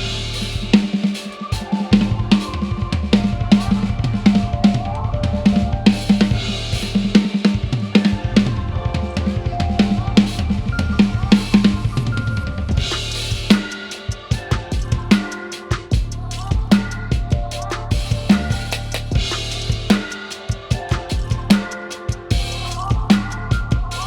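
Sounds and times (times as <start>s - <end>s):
acoustic drum kit groove: 0.0s - 24.0s
backing music track: 0.0s - 24.0s.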